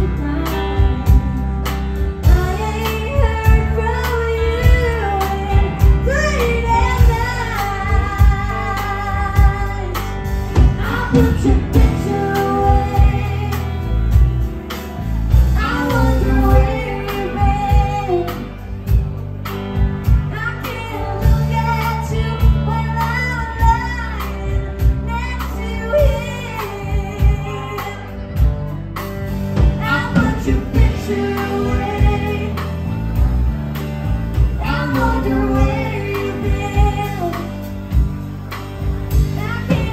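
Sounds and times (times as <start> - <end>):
woman singing into a microphone: 0.0 - 14.4, 15.3 - 19.0, 20.0 - 28.5, 29.6 - 33.0, 34.5 - 38.1, 39.2 - 39.9
drum kit beat: 0.0 - 39.9
electric guitar: 0.0 - 39.9.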